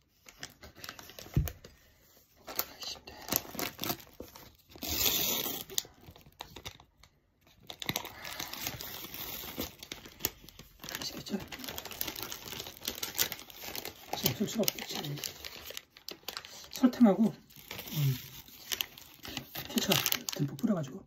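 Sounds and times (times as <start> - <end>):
paper wrapper tearing and crumpling: 0.1 - 1.7, 2.4 - 20.9.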